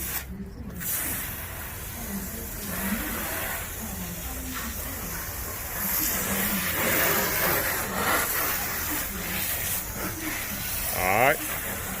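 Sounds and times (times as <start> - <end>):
pressure washer spraying water: 0.0 - 12.0.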